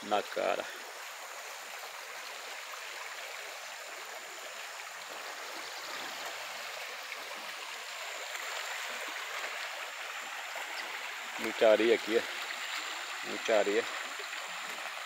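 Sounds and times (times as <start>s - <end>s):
floodwater flowing: 0.0s - 15.0s.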